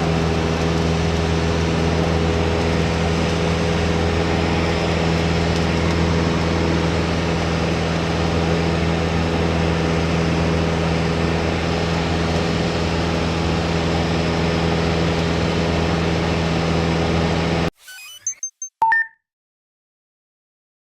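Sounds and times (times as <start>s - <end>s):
aircraft engine and propeller drone: 0.0s - 17.7s.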